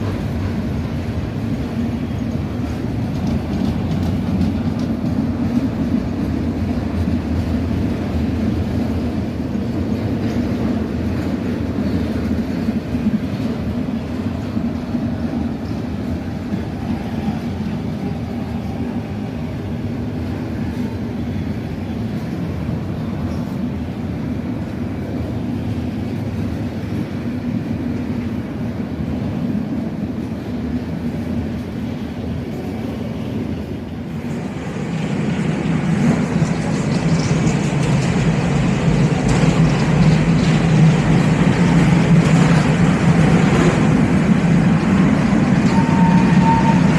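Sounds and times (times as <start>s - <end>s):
railcars rumbling on track: 0.0s - 46.9s.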